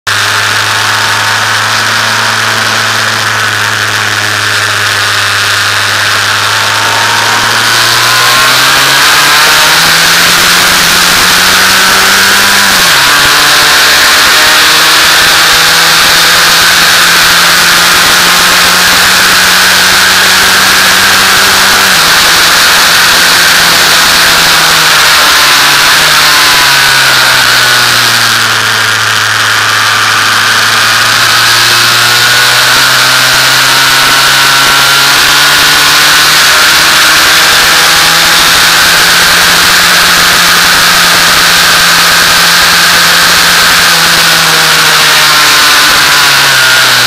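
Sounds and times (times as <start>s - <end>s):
race car engine under load: 0.1s - 47.0s.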